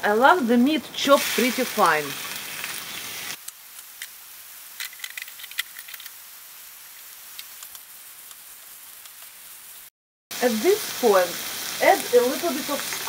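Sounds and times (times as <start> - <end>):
meat sizzling in a skillet: 1.0 - 13.0.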